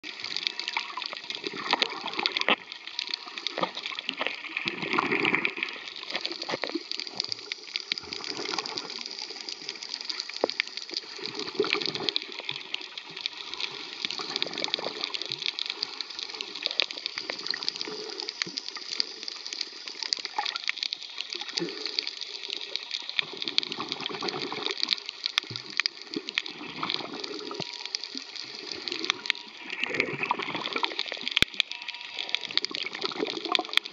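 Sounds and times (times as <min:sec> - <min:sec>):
small crackles and clicks: 0:00.0 - 0:33.9
underwater water wash: 0:00.0 - 0:33.9.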